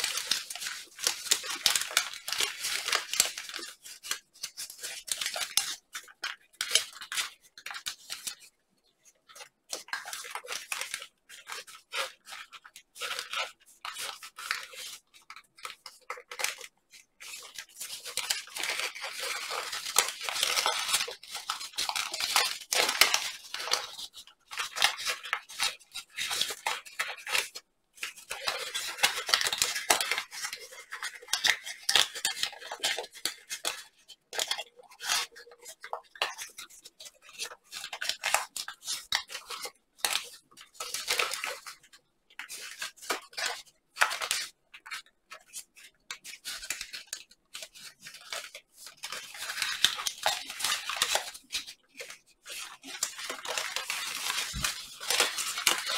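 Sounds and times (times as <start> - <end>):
paper crinkling and rustling: 0.0 - 55.9.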